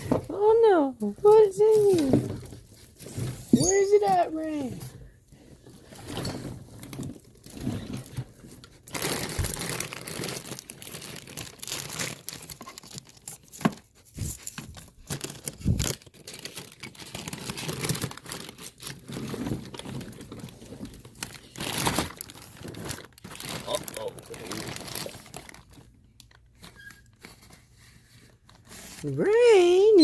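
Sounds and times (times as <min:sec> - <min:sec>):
crinkly bag rustling: 0:00.0 - 0:30.0.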